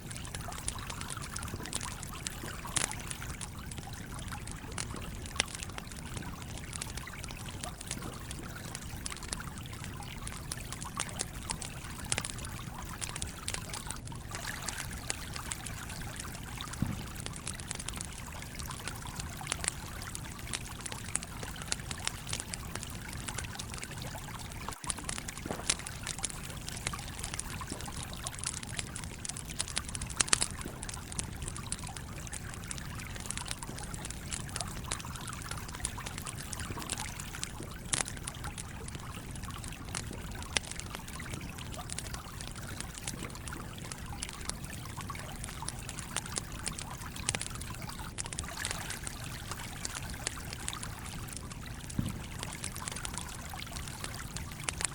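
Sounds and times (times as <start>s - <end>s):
campfire crackling and popping: 0.0s - 54.9s
trickling stream: 0.0s - 54.9s.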